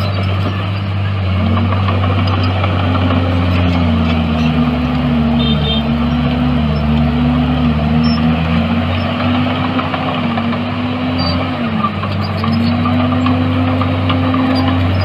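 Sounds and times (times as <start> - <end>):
heavy diesel engine under load: 0.0 - 15.0.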